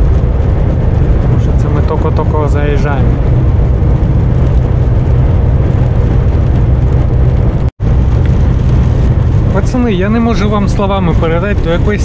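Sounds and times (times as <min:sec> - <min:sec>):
strong wind noise: 0:00.0 - 0:12.0
truck engine drone: 0:00.0 - 0:12.0.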